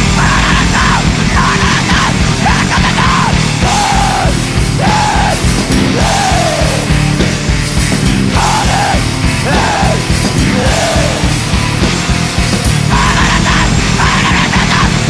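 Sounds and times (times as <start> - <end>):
arching pitched line: 0.0 - 15.0
busy drums: 0.0 - 15.0
distorted guitars: 0.0 - 15.0
hardcore punk song: 0.0 - 15.0.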